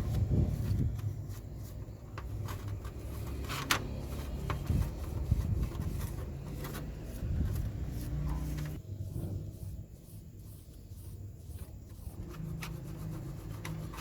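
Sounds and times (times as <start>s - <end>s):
light scraping and clicking: 0.0s - 9.4s, 11.5s - 14.0s
steady low hum: 0.0s - 14.0s.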